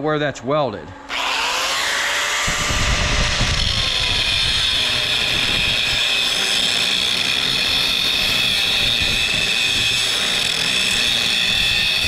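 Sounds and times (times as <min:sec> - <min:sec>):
angle grinder grinding steel: 0:01.0 - 0:12.0.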